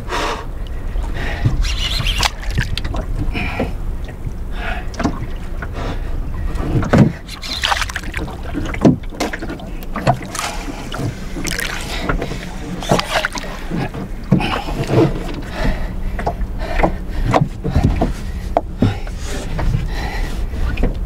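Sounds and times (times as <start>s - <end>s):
low steady rumble: 0.0s - 21.0s
water slapping boat hull: 0.5s - 21.0s.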